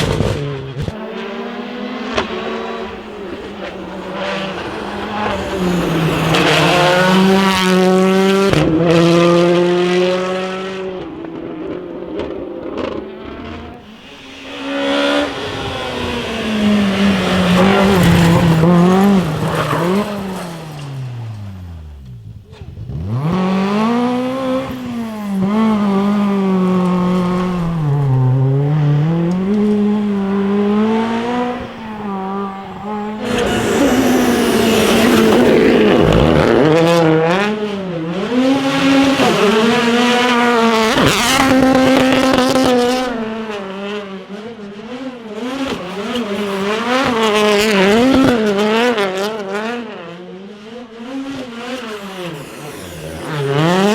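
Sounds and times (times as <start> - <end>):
rally cars passing at speed: 0.0 - 53.9.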